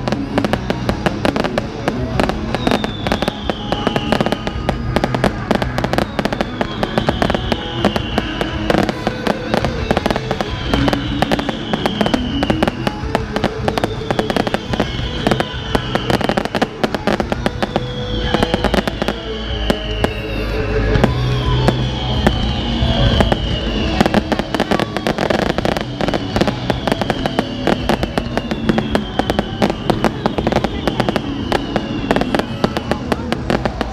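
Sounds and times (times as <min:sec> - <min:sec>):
falling high tone: 0:00.0 - 0:33.9
fireworks crackling and popping: 0:00.0 - 0:33.9
music playing: 0:00.0 - 0:33.9.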